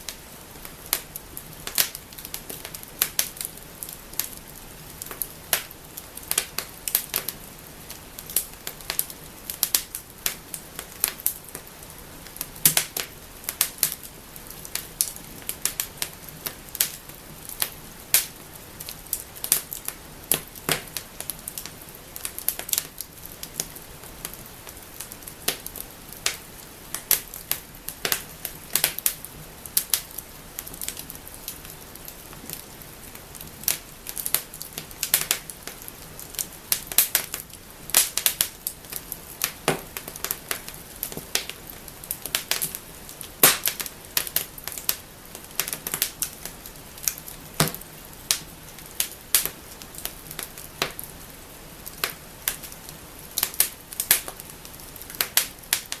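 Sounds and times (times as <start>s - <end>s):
soft hiss of flame: 0.0s - 56.0s
wood fire crackling and popping: 0.0s - 56.0s.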